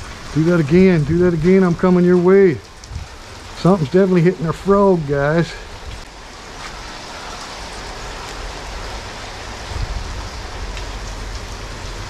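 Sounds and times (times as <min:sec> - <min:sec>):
heavy rain falling on shed: 0:00.0 - 0:12.0.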